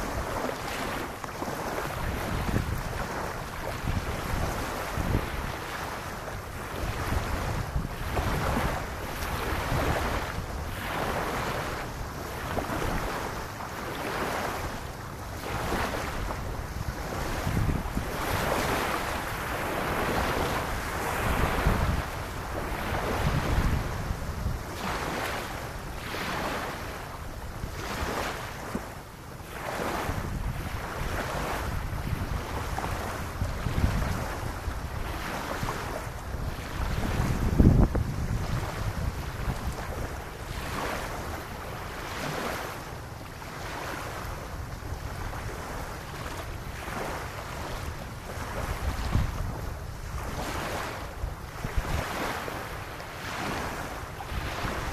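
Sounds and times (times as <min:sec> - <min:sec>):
wind buffeting microphone: 0:00.0 - 0:13.4, 0:15.4 - 0:26.7, 0:29.6 - 0:41.3, 0:43.7 - 0:52.5
small waves lapping on sand: 0:00.0 - 0:54.9.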